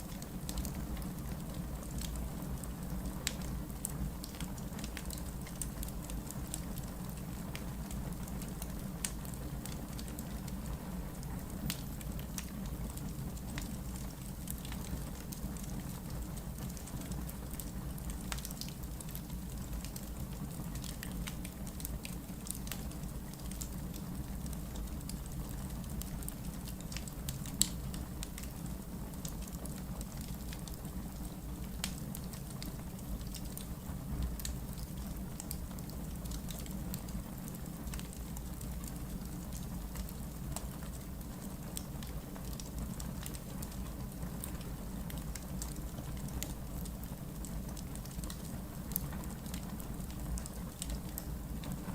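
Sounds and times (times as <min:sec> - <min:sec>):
fire crackles and pops: 0:00.0 - 0:51.9
low rumble of flame: 0:00.0 - 0:51.9.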